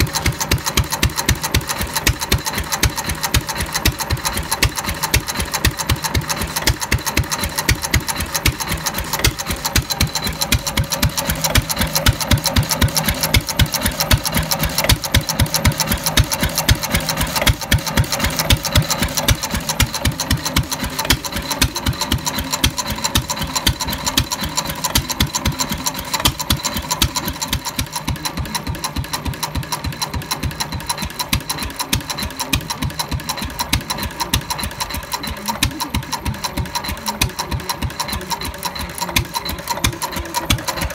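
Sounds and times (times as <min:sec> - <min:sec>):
stationary engine clattering: 0:00.0 - 0:40.9.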